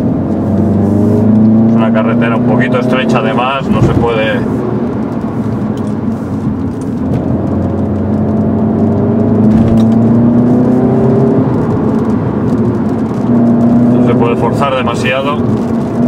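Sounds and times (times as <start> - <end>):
car engine accelerating: 0.0 - 16.0
road noise: 0.0 - 16.0.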